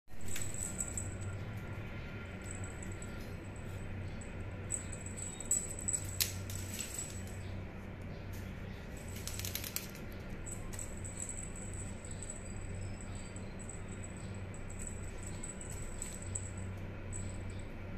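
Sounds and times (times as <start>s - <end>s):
small bell jingling: 0.1s - 7.7s, 8.9s - 17.9s
steady low hum: 0.1s - 17.9s.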